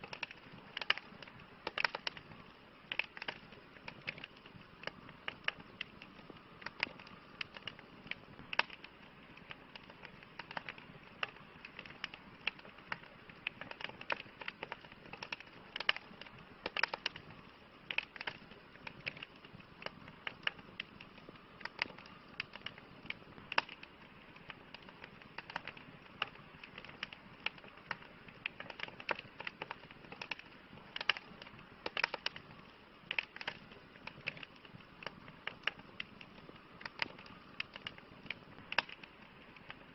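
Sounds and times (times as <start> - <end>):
campfire pops and snaps: 0.0 - 39.9
soft hiss of burning: 0.0 - 39.9.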